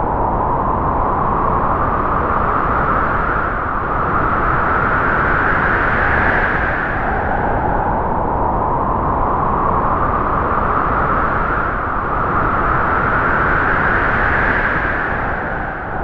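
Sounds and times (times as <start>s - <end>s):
strong wind howling through trees: 0.0s - 16.0s.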